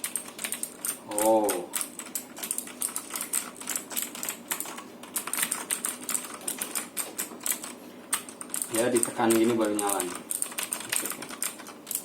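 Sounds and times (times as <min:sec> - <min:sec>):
mechanical keyboard clicking: 0:00.0 - 0:12.0.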